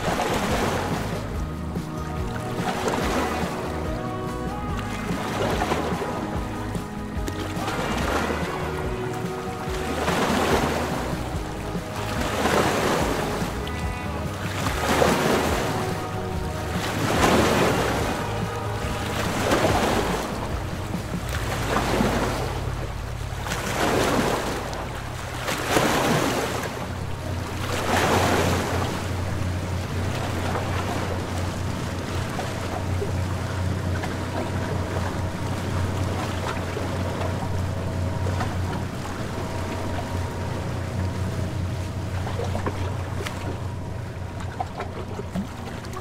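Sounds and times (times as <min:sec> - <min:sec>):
low motor hum: 0:00.0 - 0:46.0
water rushing along hull: 0:00.0 - 0:46.0
wind on microphone: 0:00.0 - 0:46.0.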